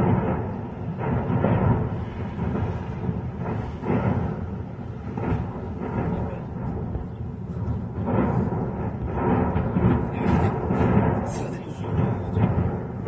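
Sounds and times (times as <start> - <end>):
blasts: 0.0 - 13.0
explosion and fire rumbling: 0.0 - 13.0.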